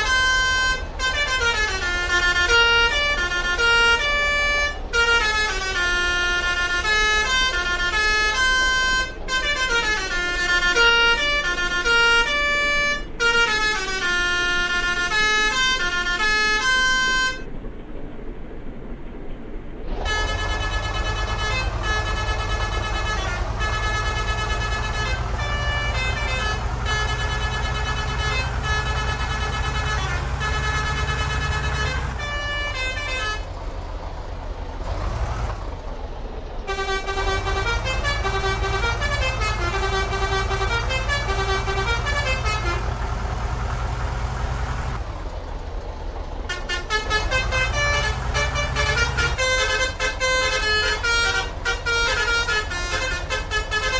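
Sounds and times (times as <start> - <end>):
multi-tone bus horn melody: 0.0 - 17.5, 19.9 - 34.1, 36.6 - 45.4, 46.1 - 53.9.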